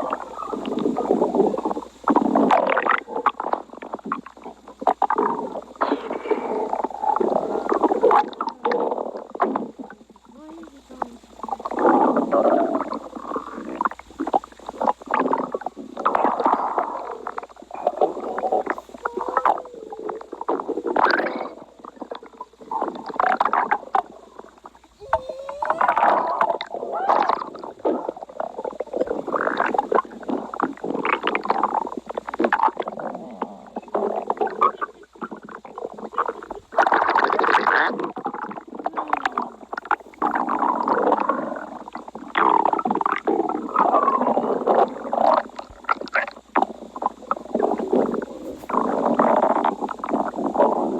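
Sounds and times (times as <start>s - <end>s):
stomach growling: 0.0s - 50.9s.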